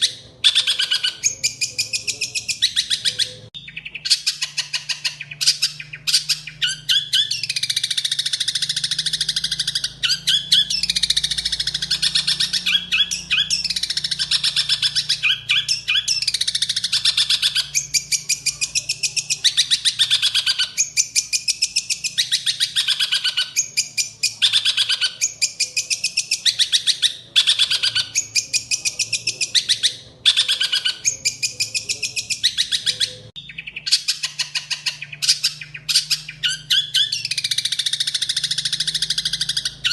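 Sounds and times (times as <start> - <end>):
songbird trilling and warbling: 0.0 - 39.9.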